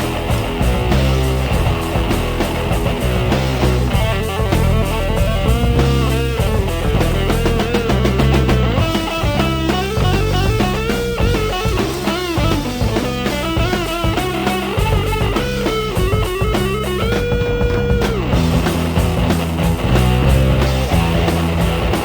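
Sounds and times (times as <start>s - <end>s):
rock music with guitar: 0.0s - 22.0s.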